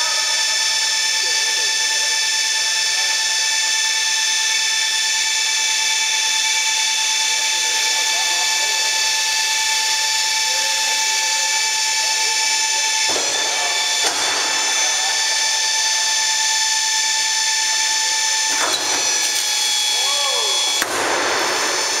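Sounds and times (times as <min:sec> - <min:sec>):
hydraulic pump whine: 0:00.0 - 0:22.0.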